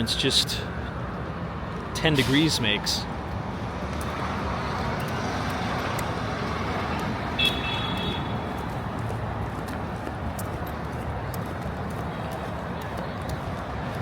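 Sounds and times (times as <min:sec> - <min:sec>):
passing cars and buses: 0:00.0 - 0:14.0.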